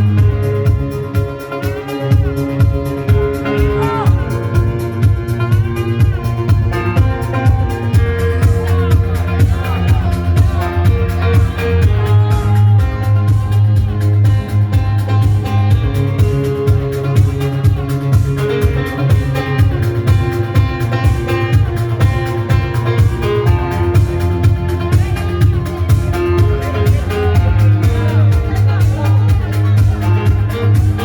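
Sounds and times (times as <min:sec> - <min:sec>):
dance music with heavy bass: 0:00.0 - 0:31.0.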